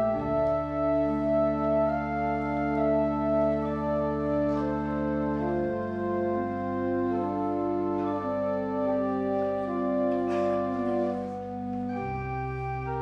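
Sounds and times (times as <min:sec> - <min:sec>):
church organ chords: 0:00.0 - 0:13.0.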